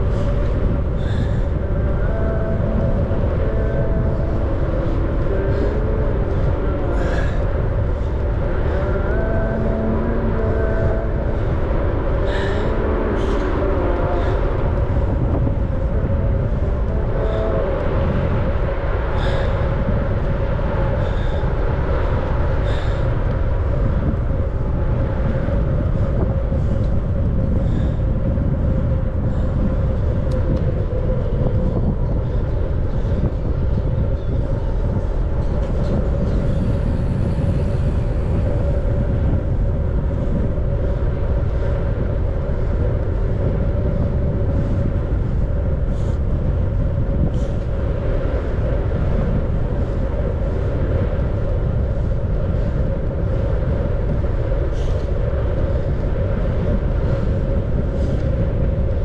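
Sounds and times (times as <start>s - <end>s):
bicycle road noise: 0.0s - 59.0s
faint steady hum: 0.0s - 59.0s
wind rumble on microphone: 0.0s - 59.0s.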